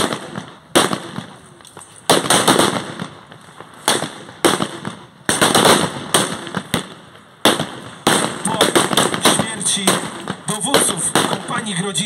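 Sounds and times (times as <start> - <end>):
blank rifle shots echoing: 0.0 - 12.0.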